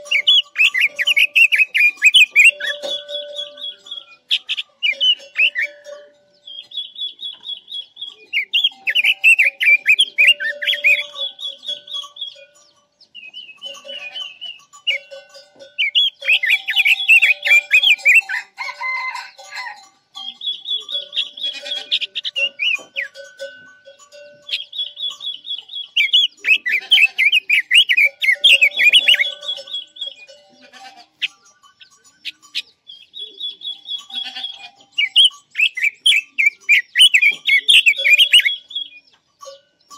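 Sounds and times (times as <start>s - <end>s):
songbird twittering and trilling: 0.0s - 39.9s.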